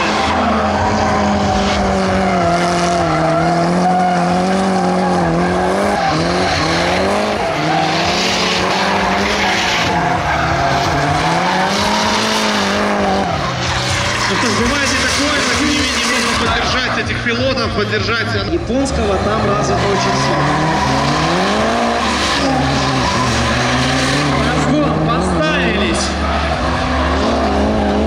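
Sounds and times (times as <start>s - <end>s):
car engine at high revs: 0.0s - 28.0s
tyres screeching: 0.0s - 28.0s.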